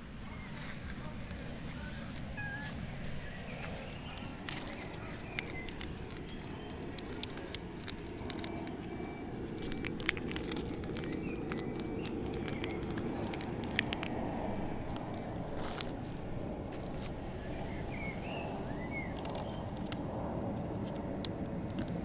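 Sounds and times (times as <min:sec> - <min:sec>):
cats chewing food: 0:00.0 - 0:17.9, 0:18.6 - 0:22.0
outdoor background: 0:00.0 - 0:22.0.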